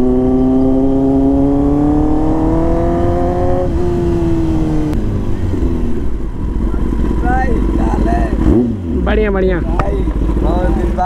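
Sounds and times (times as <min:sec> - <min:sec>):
wind noise rumble: 0:00.0 - 0:10.6
motorcycle engine revving: 0:00.0 - 0:11.0.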